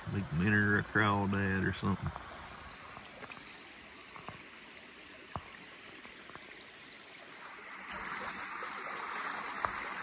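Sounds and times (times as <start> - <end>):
creek water trickling over rocks: 0.0 - 10.0.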